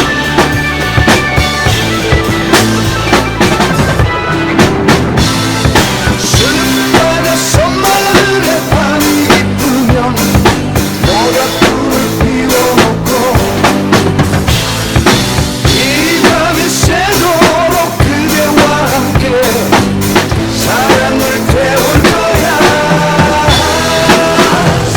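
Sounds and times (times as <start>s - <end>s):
drum kit playing: 0.0s - 24.9s
pop backing track: 0.0s - 24.9s.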